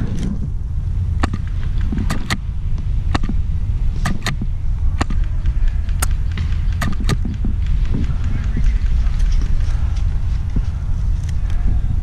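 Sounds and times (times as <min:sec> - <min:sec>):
low microphone rumble: 0:00.0 - 0:12.0.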